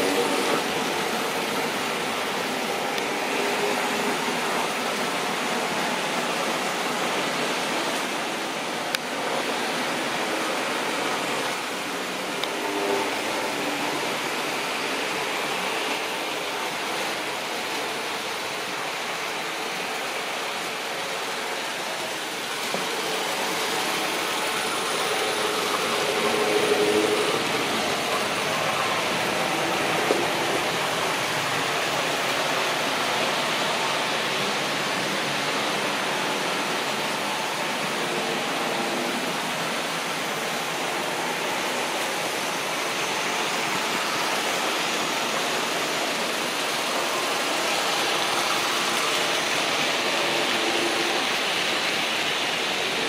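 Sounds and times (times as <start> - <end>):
model train whirring and rattling: 0.0 - 53.0.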